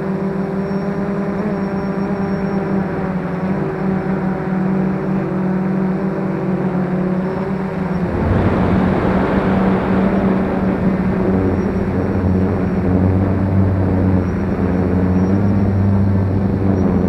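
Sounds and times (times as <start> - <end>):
quadcopter motors humming: 0.0 - 17.0.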